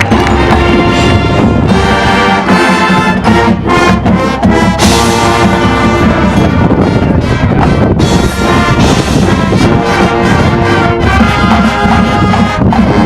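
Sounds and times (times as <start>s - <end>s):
brass band chords: 0.0s - 13.0s.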